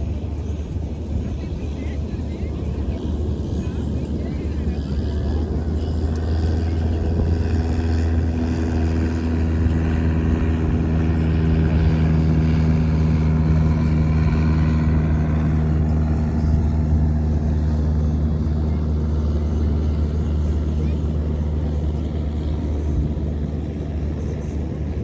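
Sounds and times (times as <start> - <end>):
aircraft engine drone: 0.0 - 25.0.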